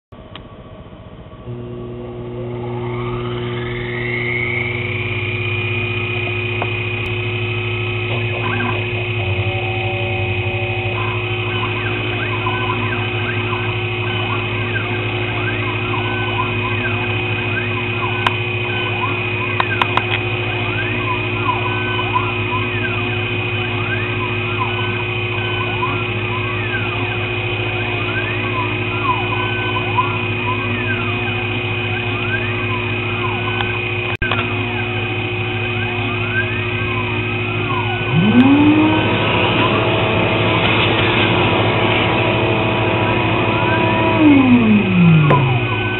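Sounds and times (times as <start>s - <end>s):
low hum: 0.2s - 45.9s
mill spindle whine: 0.2s - 45.9s
axis motors whining: 1.4s - 45.9s.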